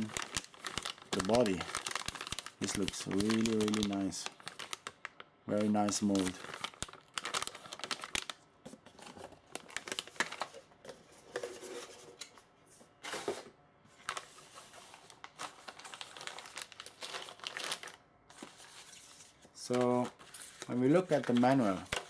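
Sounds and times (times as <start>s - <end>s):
plastic packaging crinkling: 0.0s - 11.8s, 14.0s - 22.0s.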